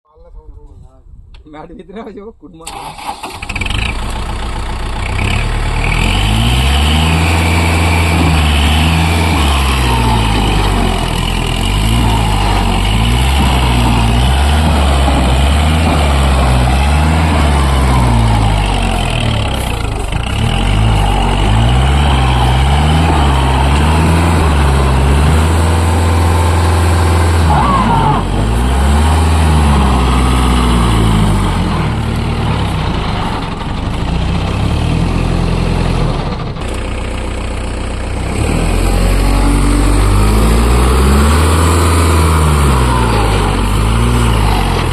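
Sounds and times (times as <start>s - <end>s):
tractor diesel engine straining: 2.6s - 44.9s.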